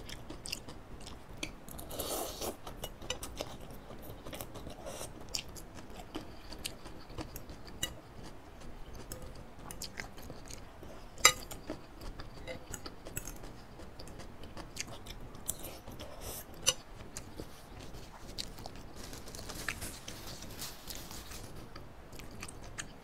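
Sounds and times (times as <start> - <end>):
chewing noodles: 0.0 - 23.0.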